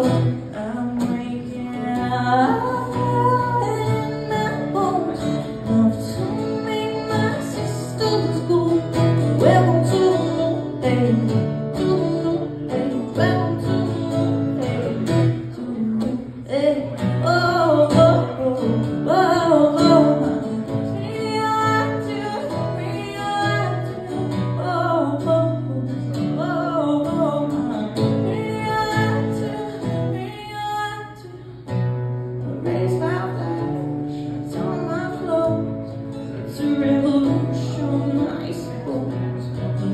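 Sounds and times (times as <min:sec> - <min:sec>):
strummed acoustic guitar: 0:00.0 - 0:39.9
woman singing: 0:00.0 - 0:39.9.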